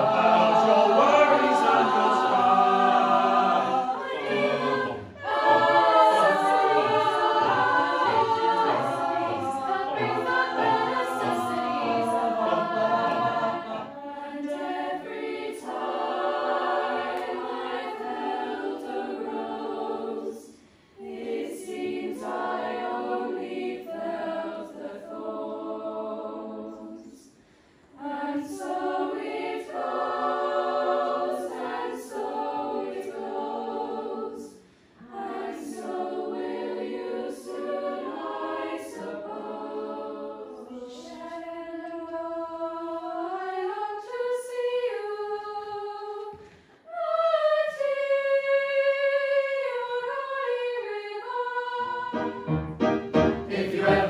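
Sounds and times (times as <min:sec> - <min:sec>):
girls' choir singing: 0:00.0 - 0:54.0
mixed choir singing a cappella: 0:00.0 - 0:54.0.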